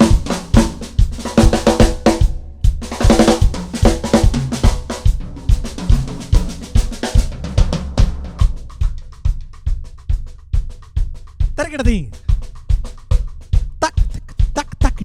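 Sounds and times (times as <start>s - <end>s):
drums in fast rhythm: 0.0s - 15.0s.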